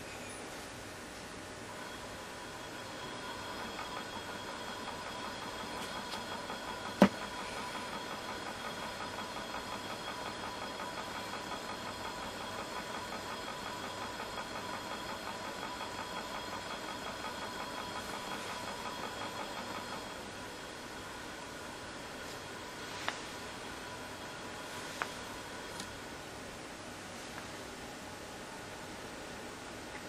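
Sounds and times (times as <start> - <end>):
mechanical running noise: 1.6 - 26.3.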